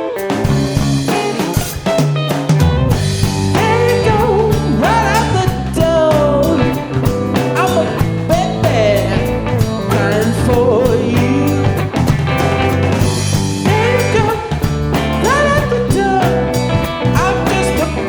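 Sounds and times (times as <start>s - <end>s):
band playing: 0.0s - 18.0s
bending lead melody: 0.0s - 18.0s
drum kit beat: 0.0s - 18.0s
held bass notes: 0.5s - 18.0s.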